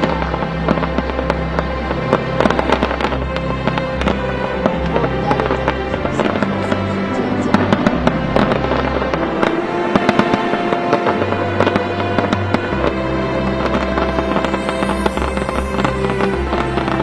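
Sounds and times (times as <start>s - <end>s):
fireworks bangs and crackles: 0.0s - 17.0s
music with low bass line: 0.0s - 17.0s.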